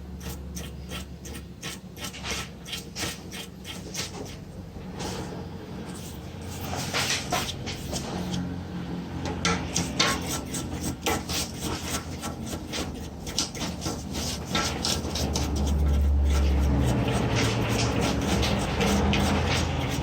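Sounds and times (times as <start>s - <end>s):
rubbing and scraping strokes: 0.0s - 8.5s, 9.6s - 20.0s.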